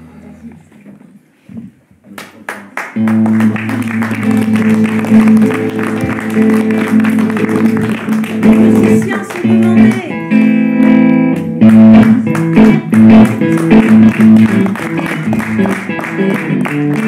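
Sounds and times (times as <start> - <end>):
band playing held chords: 3.0 - 17.0
electric guitar notes: 3.0 - 17.0.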